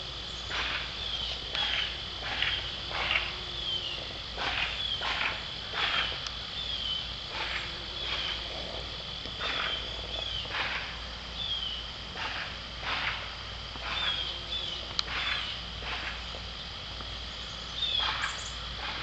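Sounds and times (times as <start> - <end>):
insects trilling and chirping: 0.0 - 19.0.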